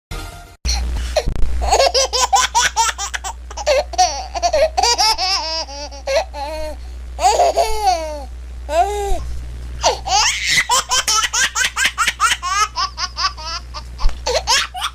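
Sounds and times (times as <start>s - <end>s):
steady low hum: 0.7s - 14.9s
baby giggling: 1.6s - 8.9s, 9.8s - 14.9s.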